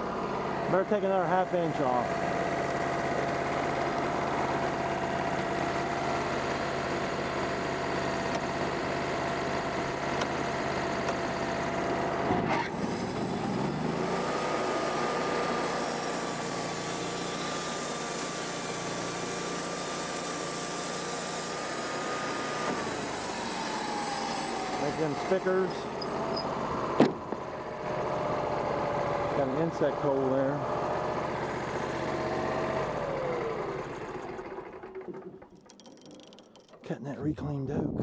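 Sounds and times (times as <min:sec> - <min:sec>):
sawmill engine running: 0:00.0 - 0:37.1.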